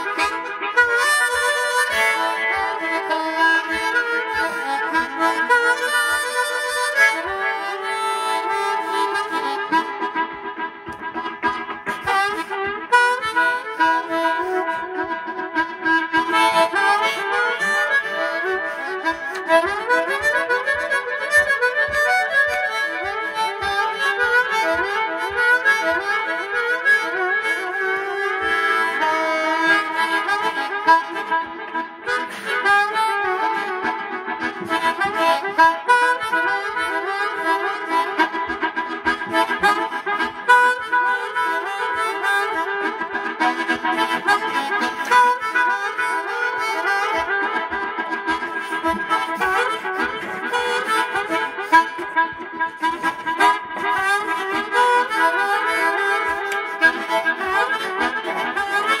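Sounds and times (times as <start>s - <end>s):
amplified blues harmonica with delay: 0.0s - 59.0s.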